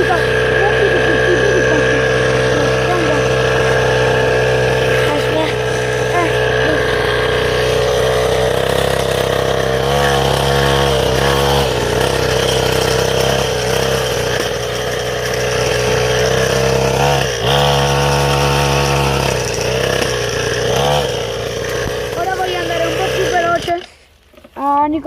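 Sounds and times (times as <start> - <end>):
motocross bike engine revving: 0.0 - 24.1.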